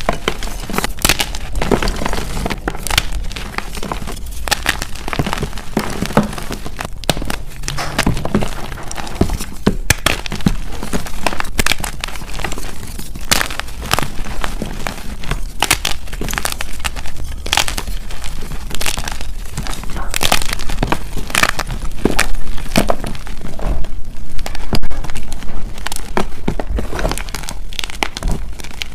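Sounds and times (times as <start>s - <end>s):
chalk blocks crunching by hand: 0.0s - 28.9s.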